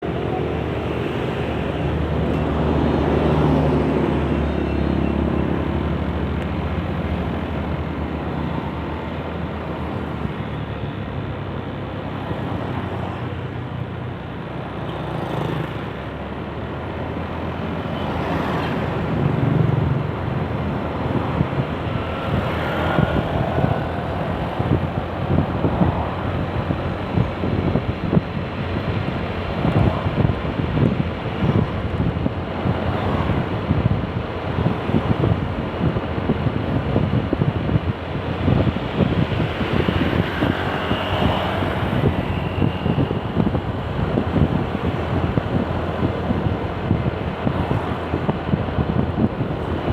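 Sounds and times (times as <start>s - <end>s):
highway traffic passing: 0.0s - 49.9s
wind buffeting microphone: 0.0s - 49.9s.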